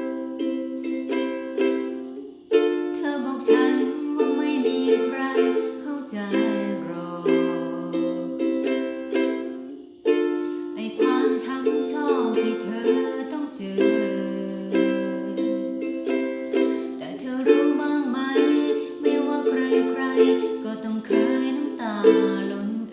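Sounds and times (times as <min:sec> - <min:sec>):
ukulele strumming chords: 0:00.0 - 0:22.9.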